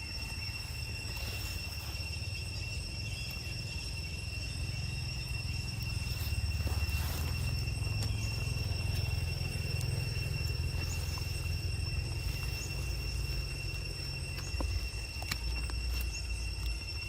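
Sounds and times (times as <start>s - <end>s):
high-pitched insect drone: 0.0s - 17.0s
low rumble: 0.1s - 17.0s.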